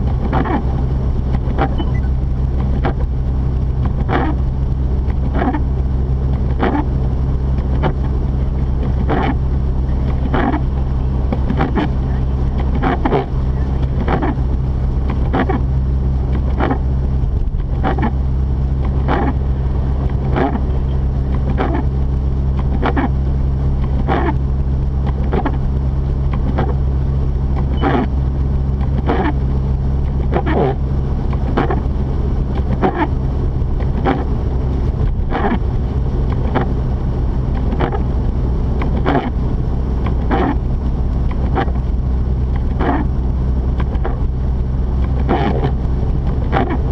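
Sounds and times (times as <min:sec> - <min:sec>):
car engine and tyres droning: 0:00.0 - 0:46.9
windshield wipers swishing: 0:00.0 - 0:46.9.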